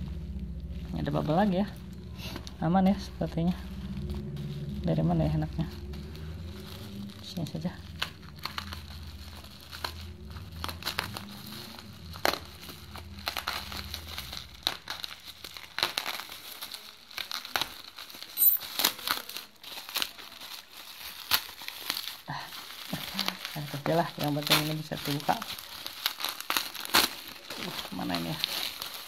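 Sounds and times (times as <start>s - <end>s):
bubble wrap crinkling: 0.0s - 29.0s.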